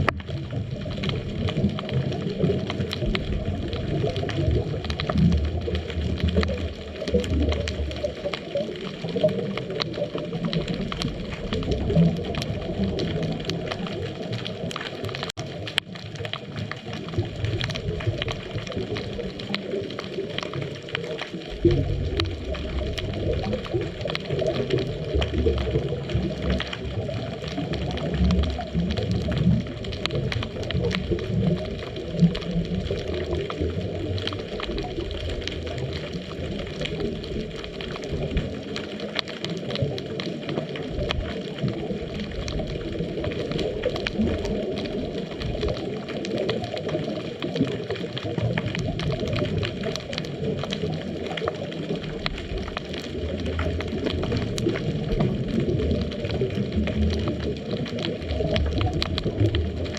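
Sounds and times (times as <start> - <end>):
underwater rumble of moving water: 0.0 - 59.9.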